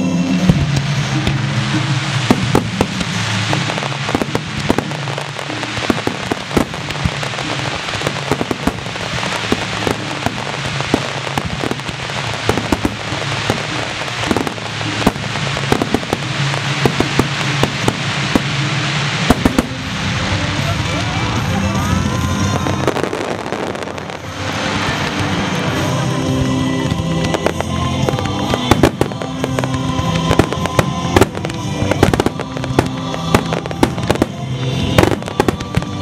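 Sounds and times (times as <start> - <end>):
fireworks crackle: 0.0 - 36.0
fireworks bangs: 0.2 - 36.0.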